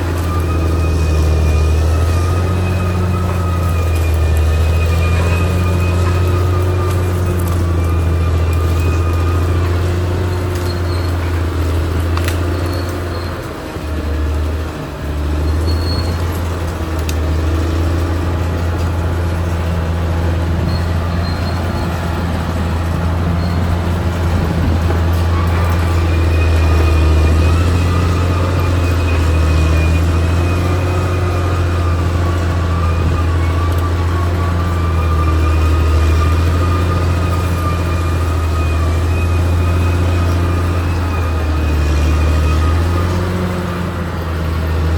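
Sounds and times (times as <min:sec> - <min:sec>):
bulldozer diesel engine drone: 0:00.0 - 0:44.9.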